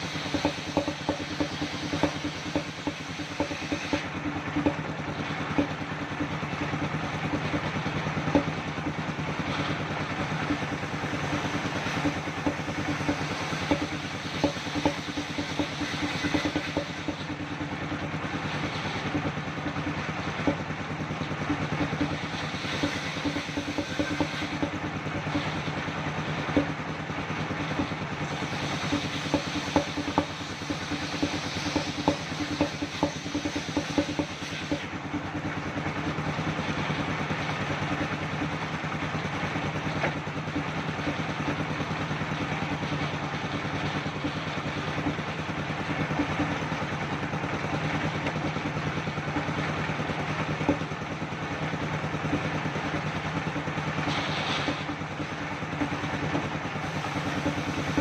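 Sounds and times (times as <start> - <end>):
sharp clicks and knocks: 0.0 - 38.6, 39.5 - 58.0
circular sawmill whirring: 0.0 - 58.0.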